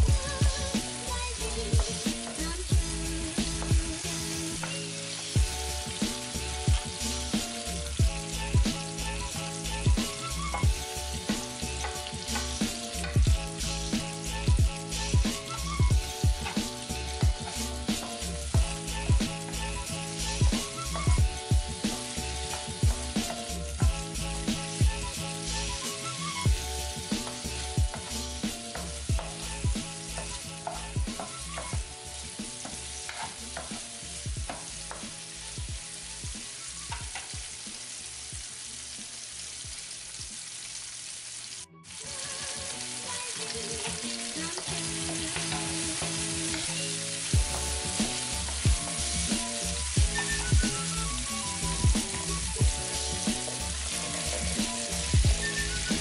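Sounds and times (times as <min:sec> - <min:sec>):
background music with beat: 0:00.0 - 0:40.6, 0:41.8 - 0:56.0
vegetables sizzling in oil: 0:00.0 - 0:56.0
wooden spatula stirring wok: 0:04.6 - 0:37.7, 0:43.4 - 0:56.0.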